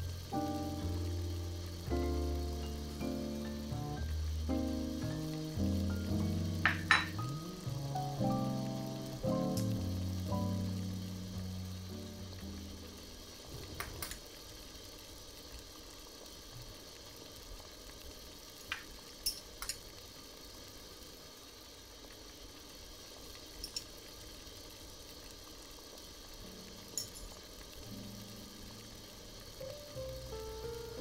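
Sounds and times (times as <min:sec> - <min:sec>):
stew bubbling at a boil: 0:00.0 - 0:31.0.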